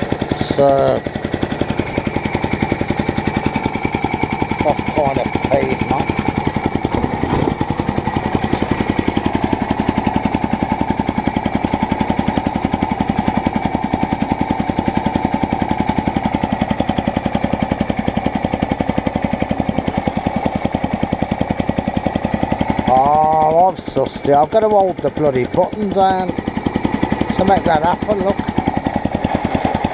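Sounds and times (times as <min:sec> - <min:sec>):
lawnmower engine running: 0:00.0 - 0:29.9.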